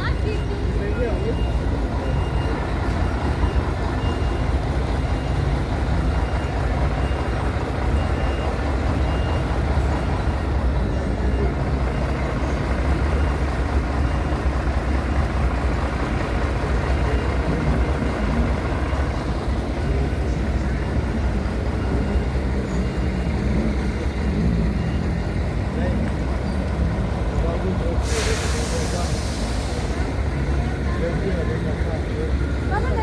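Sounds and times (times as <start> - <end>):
low vehicle rumble: 0.0 - 33.0.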